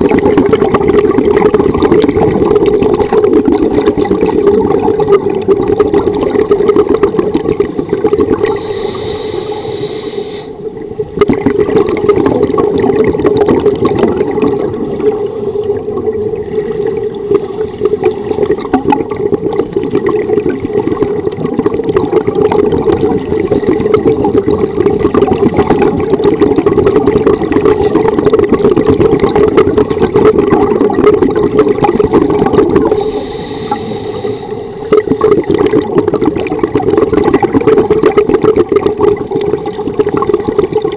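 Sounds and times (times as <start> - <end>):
underwater regulator bubbles: 0.0 - 40.9.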